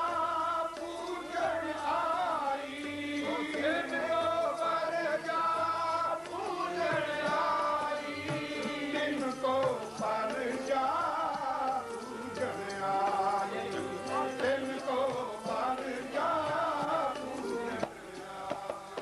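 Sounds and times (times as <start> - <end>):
harmonium notes: 0.0 - 19.0
men singing a hymn together: 0.0 - 19.0.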